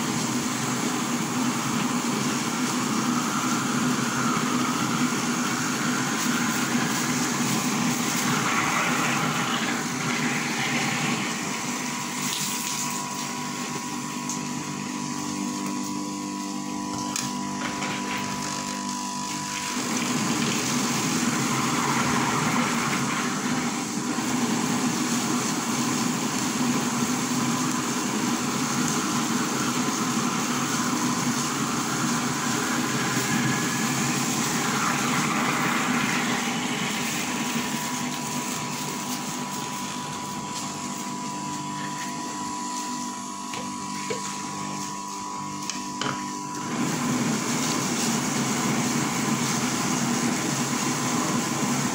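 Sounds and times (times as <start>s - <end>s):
soy milk grinder humming: 0.0s - 51.9s.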